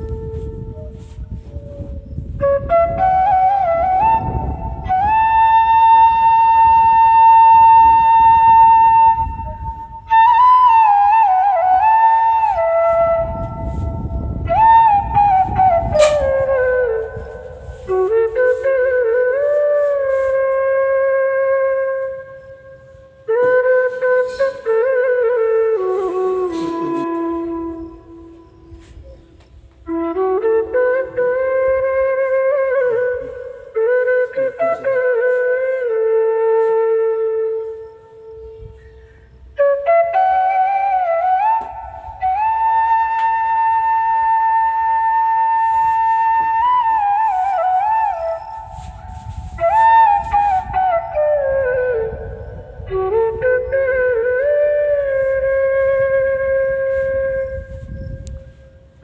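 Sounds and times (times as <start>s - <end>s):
slow flute melody: 0.0s - 59.0s.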